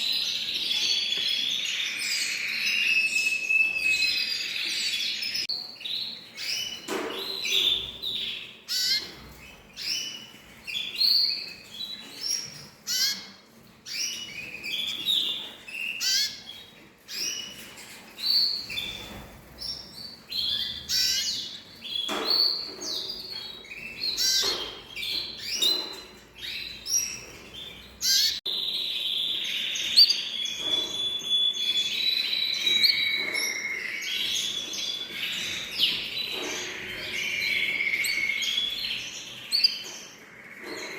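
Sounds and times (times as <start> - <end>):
continuous warbling bird song: 0.0 - 40.9
songbirds chirping: 0.0 - 40.9.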